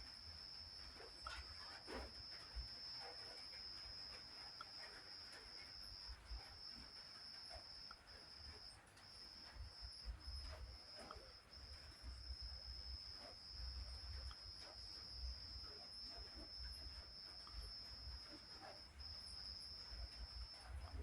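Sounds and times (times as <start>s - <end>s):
cricket chirping trill: 0.0s - 21.0s.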